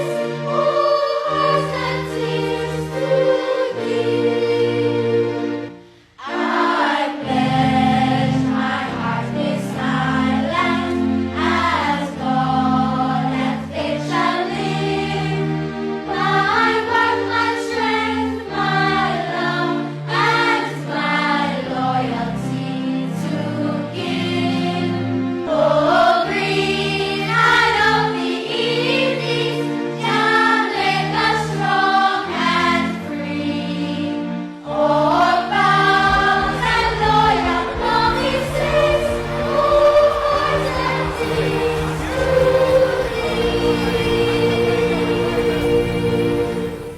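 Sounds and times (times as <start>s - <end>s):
choir singing over sustained chords: 0.0s - 46.9s.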